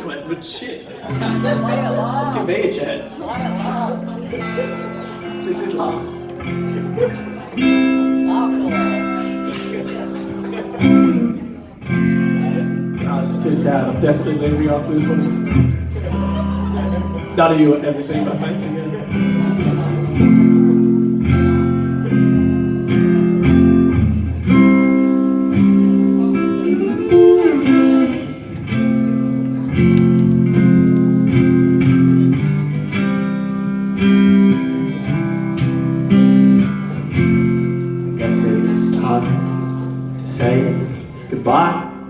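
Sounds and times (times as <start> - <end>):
bass notes: 1.1 - 17.6, 18.2 - 42.0
guitar chords ringing: 1.1 - 42.0.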